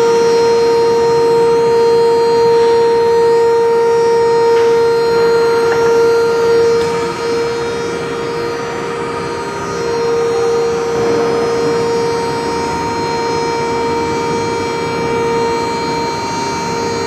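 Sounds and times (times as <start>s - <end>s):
induction furnace humming: 0.0s - 17.0s.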